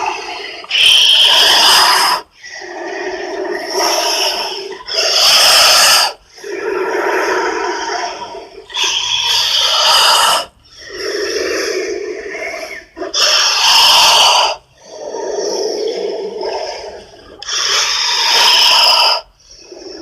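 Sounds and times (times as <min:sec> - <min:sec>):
loud creature hisses: 0:00.0 - 0:20.0
low rasping sounds: 0:00.0 - 0:20.0.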